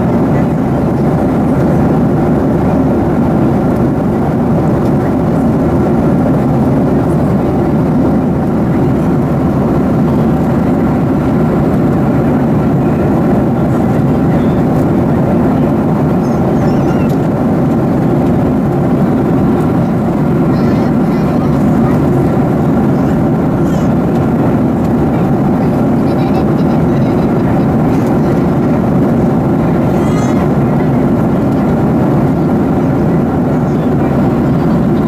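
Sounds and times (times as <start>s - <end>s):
jet engine and airflow roar: 0.0s - 35.0s.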